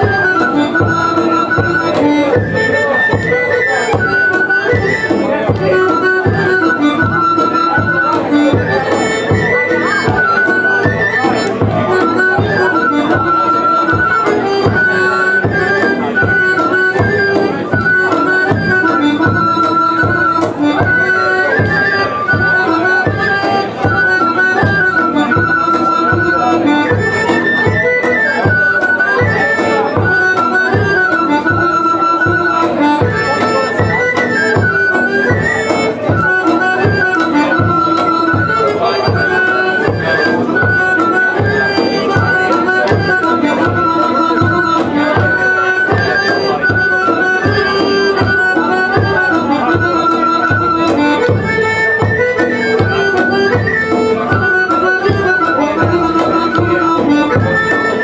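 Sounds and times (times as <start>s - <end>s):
folk dance music: 0.0s - 58.0s.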